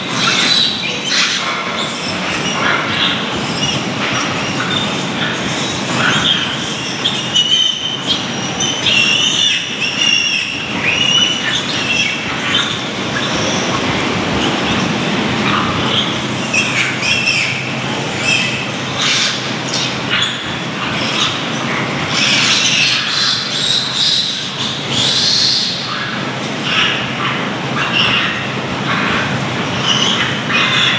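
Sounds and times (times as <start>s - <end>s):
piglets squealing: 0.0s - 30.9s
steady low hum: 0.0s - 30.9s.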